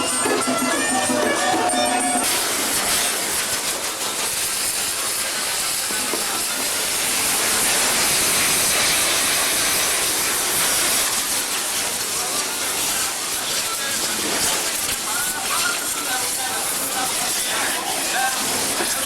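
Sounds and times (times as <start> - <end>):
bonfire hissing and crackling: 2.0 - 19.0.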